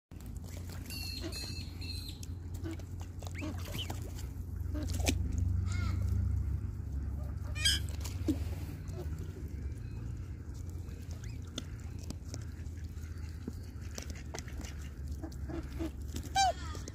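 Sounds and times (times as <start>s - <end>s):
steady low rumble: 0.2s - 16.9s
swans and ducks calling: 0.2s - 16.9s.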